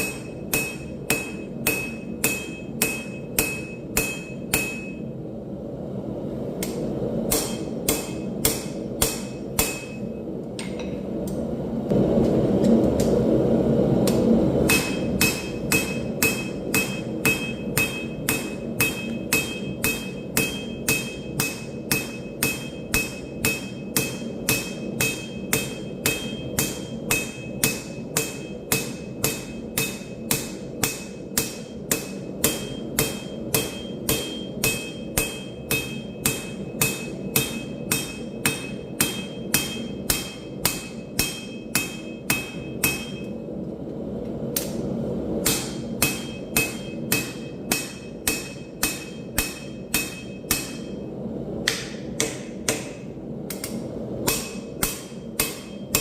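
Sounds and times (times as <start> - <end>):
hammer blows on anvil: 0.0 - 5.1, 6.6 - 11.1, 14.1 - 43.4, 45.4 - 56.0.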